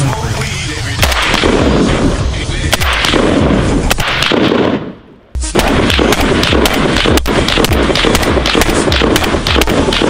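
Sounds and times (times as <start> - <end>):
rifle shots: 1.0 - 10.0.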